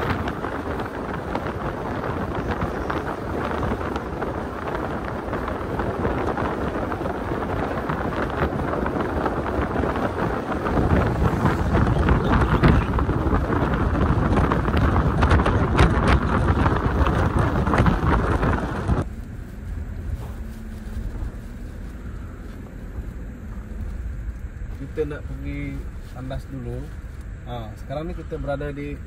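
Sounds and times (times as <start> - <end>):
road noise: 0.0 - 29.0
wind buffeting microphone: 0.0 - 29.0.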